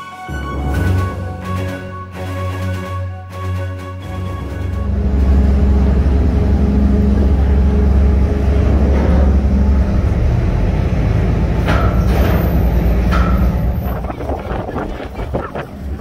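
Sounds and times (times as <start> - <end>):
ferry engines rumbling: 0.0 - 16.0.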